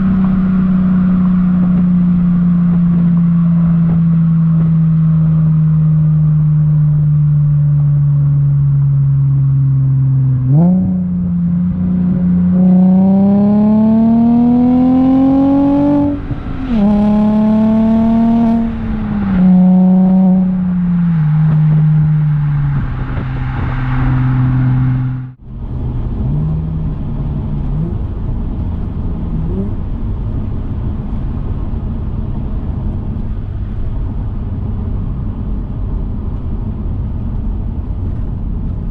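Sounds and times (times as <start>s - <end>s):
car engine through exhaust: 0.0s - 38.9s.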